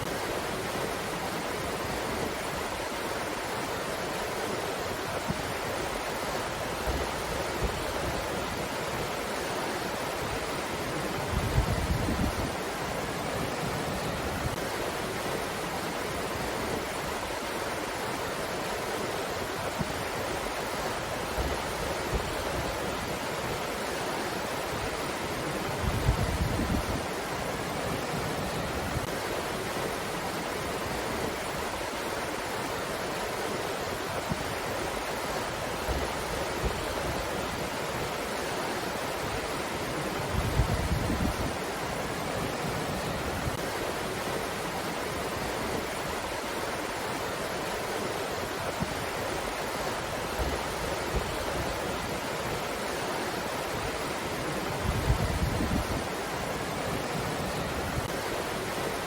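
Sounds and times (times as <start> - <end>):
wind blowing: 4.9 - 32.4, 34.0 - 59.0.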